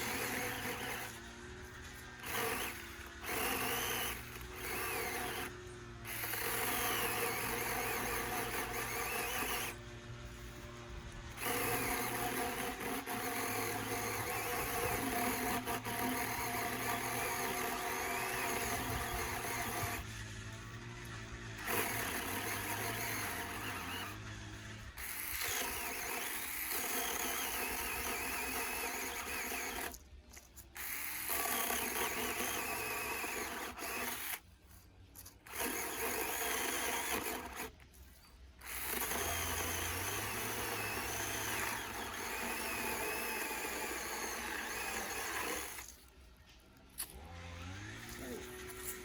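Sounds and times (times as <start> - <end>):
electric chainsaw cutting log: 0.0 - 49.0.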